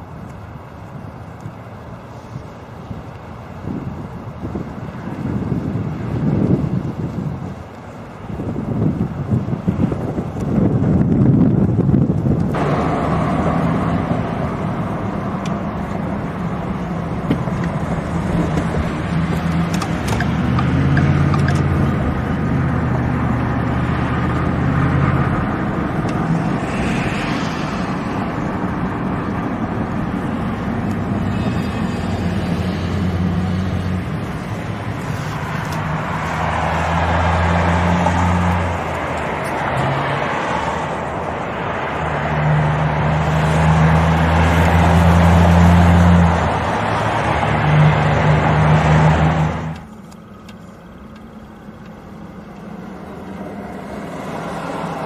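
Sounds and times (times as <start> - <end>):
road and tyre noise: 0.0 - 55.0
low engine drone: 10.2 - 55.0.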